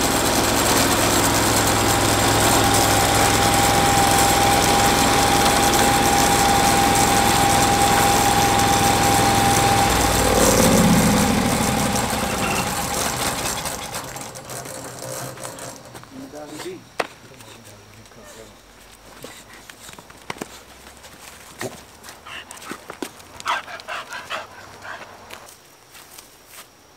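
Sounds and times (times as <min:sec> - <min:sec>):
sawmill engine whining: 0:00.0 - 0:18.5, 0:22.1 - 0:25.5.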